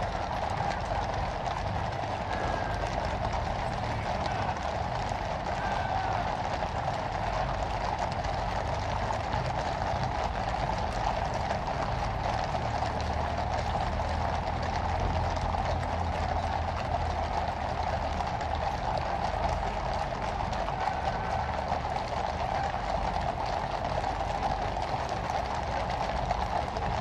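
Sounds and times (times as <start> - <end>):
coach wheels rumbling on road: 0.0 - 27.0
horse hooves clip-clopping: 0.0 - 27.0
steady background noise: 0.0 - 27.0.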